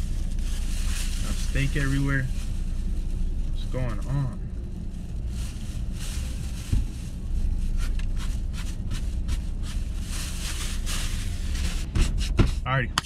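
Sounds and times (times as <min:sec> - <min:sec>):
plastic bag rustling: 0:00.0 - 0:11.9
low rumble: 0:00.0 - 0:13.0.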